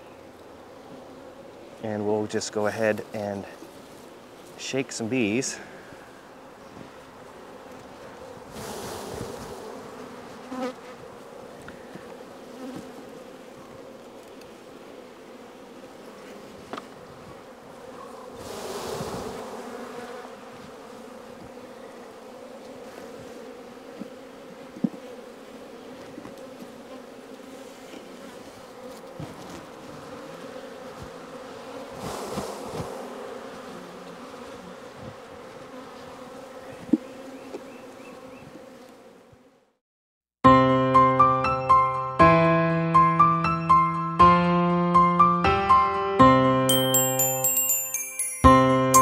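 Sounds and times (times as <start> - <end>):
bees buzzing: 0.0 - 39.6.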